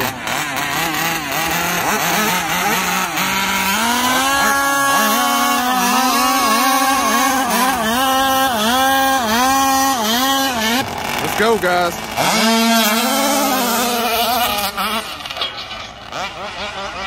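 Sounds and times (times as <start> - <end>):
small two-stroke engines revving: 0.0 - 17.0.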